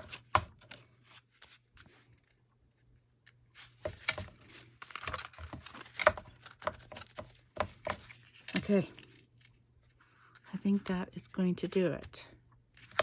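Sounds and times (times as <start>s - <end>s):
paper rustling and shuffling: 0.0s - 10.8s.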